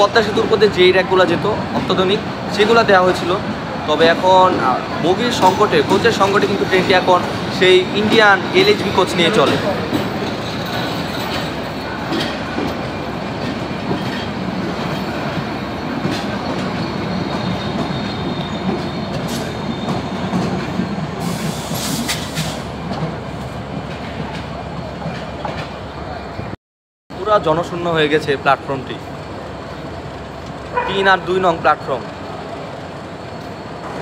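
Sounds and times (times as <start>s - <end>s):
train wheels rumbling on rails: 0.0s - 26.5s, 27.2s - 34.0s
rail joint clicks: 0.1s - 25.9s, 29.1s - 31.0s, 31.9s - 34.0s.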